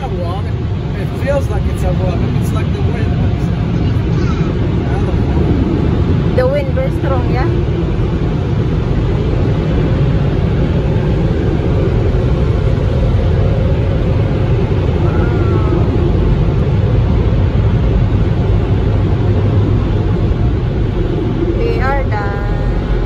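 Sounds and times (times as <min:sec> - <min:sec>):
low rumble and hiss in car: 0:00.0 - 0:23.0.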